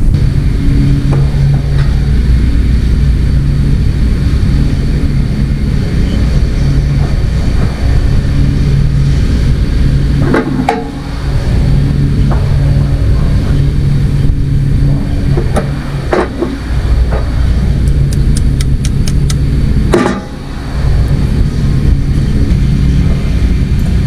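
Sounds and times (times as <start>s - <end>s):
engine humming: 0.0s - 24.0s.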